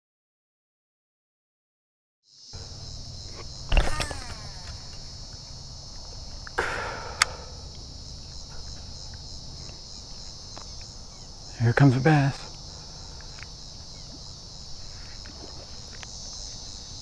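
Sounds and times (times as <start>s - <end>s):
insects chorus: 2.2s - 17.0s.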